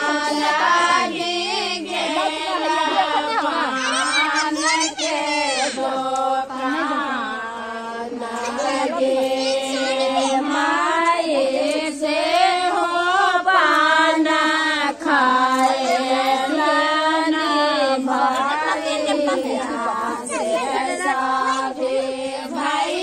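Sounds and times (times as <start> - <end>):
women and girls singing unaccompanied: 0.0 - 23.0.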